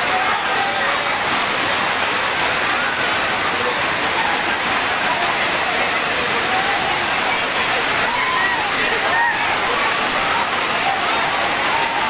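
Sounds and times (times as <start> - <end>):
crowd voices and shouts: 0.0 - 12.0
waterfall rushing: 0.0 - 12.0.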